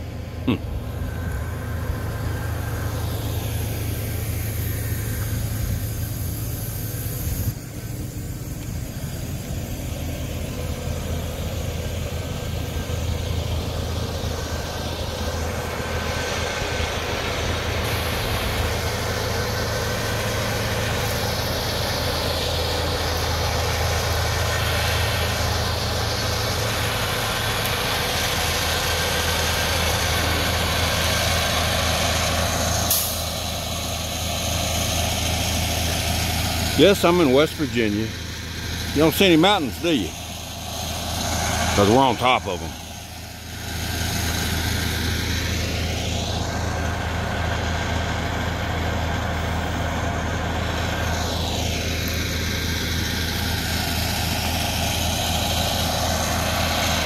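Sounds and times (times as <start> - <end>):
large engine idling: 0.0 - 57.0.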